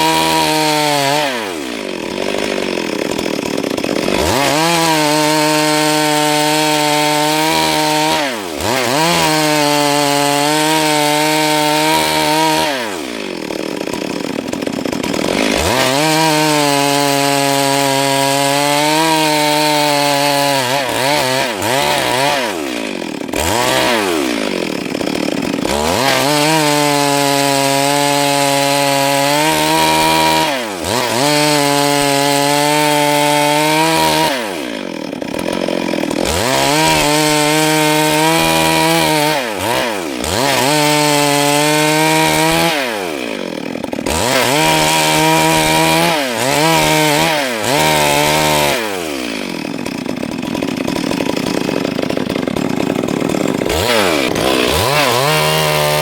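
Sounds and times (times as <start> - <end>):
chainsaw sawing through log: 0.0 - 56.0.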